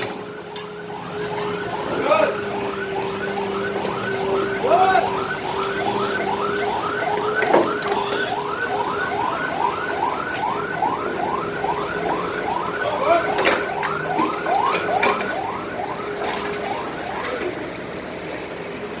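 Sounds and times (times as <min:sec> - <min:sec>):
electronic alarm warbling: 0:00.0 - 0:17.4.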